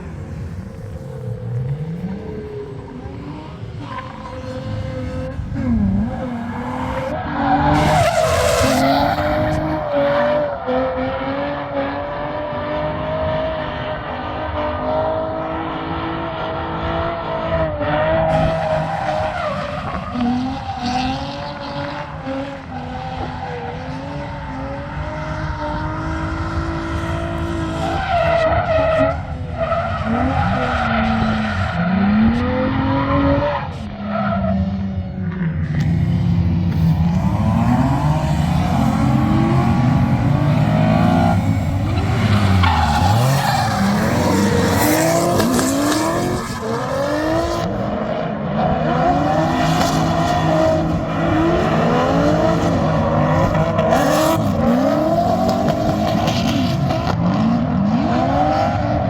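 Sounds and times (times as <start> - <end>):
tires squealing: 0.0 - 11.5, 16.6 - 59.0
car engine revving: 0.0 - 59.0.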